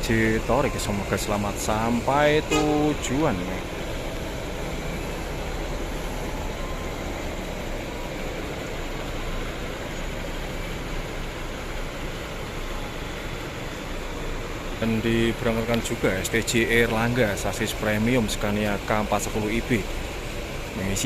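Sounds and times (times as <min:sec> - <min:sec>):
diesel coach engine rumble: 0:00.0 - 0:21.0
road traffic noise: 0:00.0 - 0:21.0.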